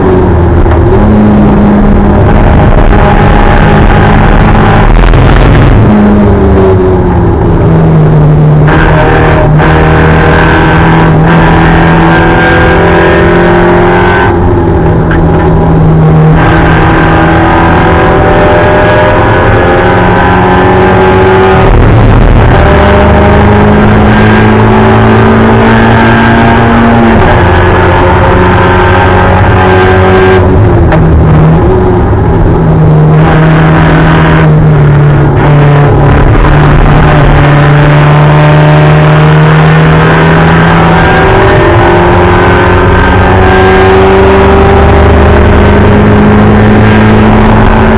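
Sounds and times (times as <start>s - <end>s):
race car engine at high revs: 0.0s - 47.9s.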